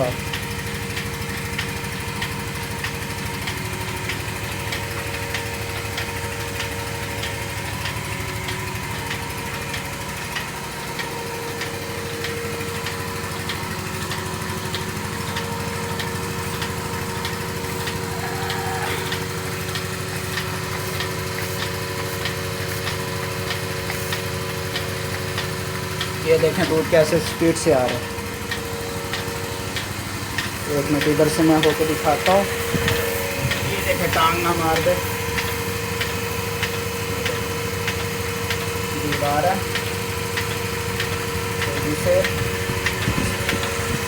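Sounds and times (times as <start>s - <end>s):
vacuum pump motor humming: 0.0s - 44.0s
faint regular clicking: 0.2s - 44.0s.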